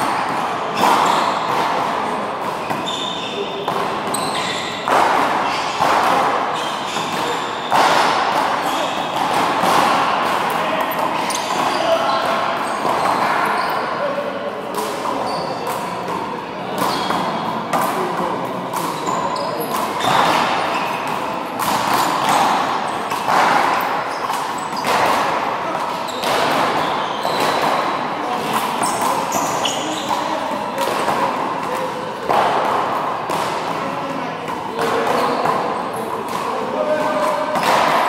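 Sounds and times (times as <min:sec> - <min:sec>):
handball smacking wall and floor: 0:00.0 - 0:13.6, 0:14.7 - 0:33.9, 0:34.7 - 0:38.0.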